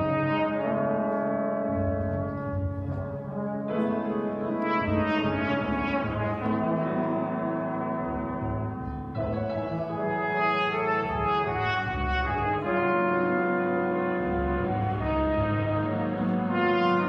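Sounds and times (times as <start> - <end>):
jazz big band ballad: 0.0 - 17.0.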